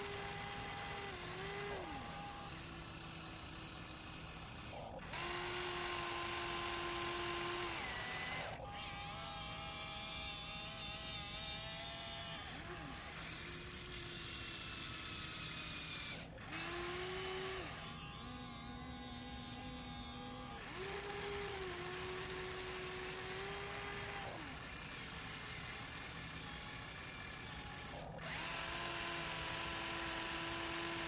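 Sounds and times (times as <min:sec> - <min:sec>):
small electric motors whining: 0:00.0 - 0:31.0.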